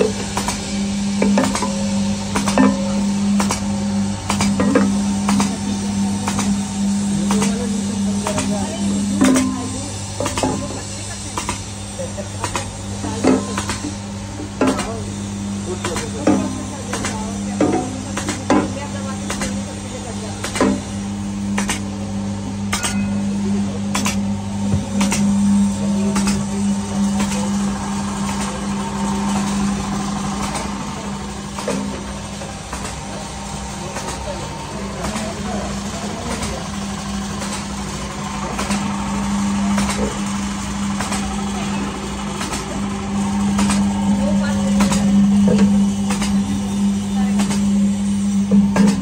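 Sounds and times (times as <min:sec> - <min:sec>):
machine motor hum: 0:00.0 - 0:49.0.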